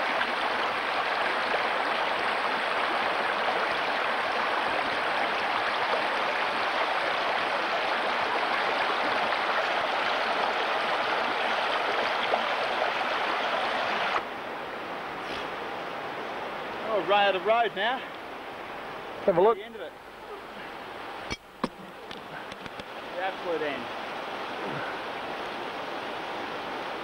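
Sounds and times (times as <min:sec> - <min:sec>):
creek rushing over rocks: 0:00.0 - 0:27.0.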